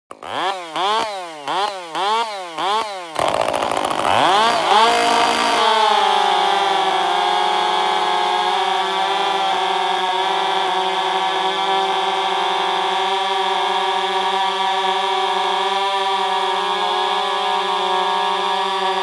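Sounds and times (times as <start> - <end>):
chainsaw revving and cutting wood: 0.1 - 19.0.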